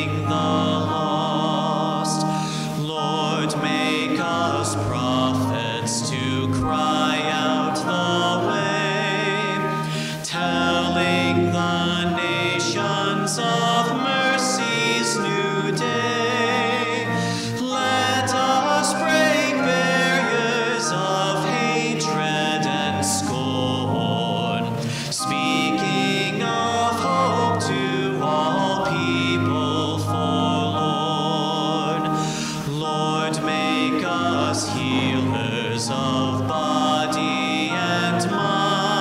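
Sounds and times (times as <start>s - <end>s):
church organ: 0.0s - 39.0s
people singing with vibrato: 0.0s - 39.0s.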